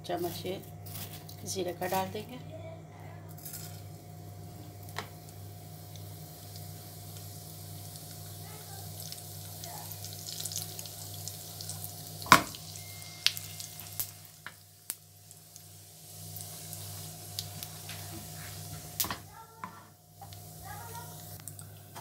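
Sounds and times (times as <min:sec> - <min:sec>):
seeds sizzling in hot oil: 0:00.1 - 0:02.2, 0:03.4 - 0:21.6.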